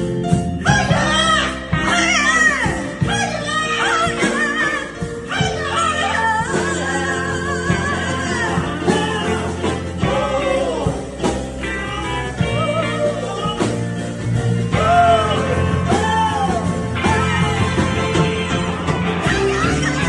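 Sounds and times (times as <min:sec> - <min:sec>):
rock band playing ballad: 0:00.0 - 0:20.0
wordless singing: 0:00.6 - 0:20.0.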